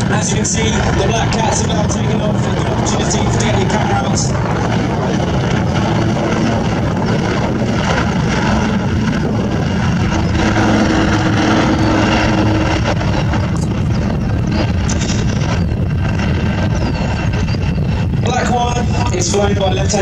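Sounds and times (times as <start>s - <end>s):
helicopter rotor and turbine noise: 0.0s - 20.0s.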